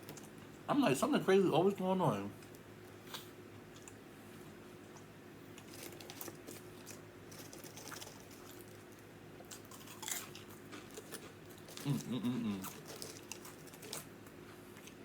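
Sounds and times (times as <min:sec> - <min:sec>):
steady low hum: 0:00.0 - 0:15.0
chewing and biting sandwich: 0:02.5 - 0:15.0.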